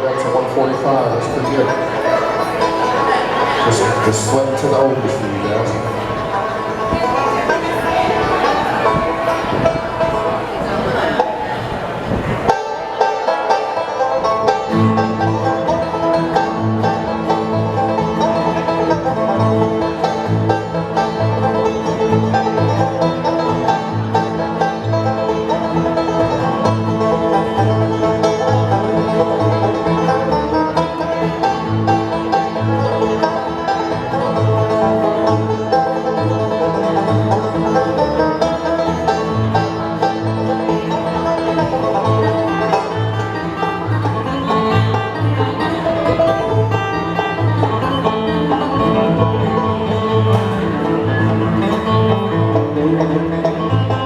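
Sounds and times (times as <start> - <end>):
banjo picking: 0.0 - 54.0
bass line: 0.0 - 54.0
guitar: 0.0 - 54.0.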